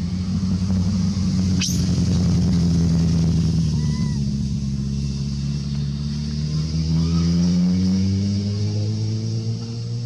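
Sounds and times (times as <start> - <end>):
motor engine droning: 0.0 - 10.0.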